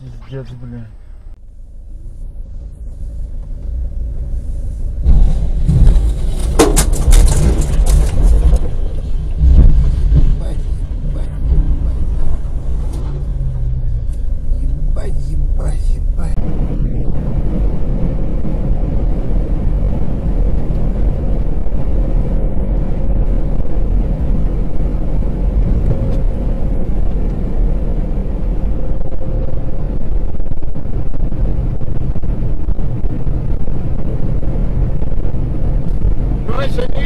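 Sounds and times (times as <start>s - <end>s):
truck engine and road rumble: 0.0s - 37.0s.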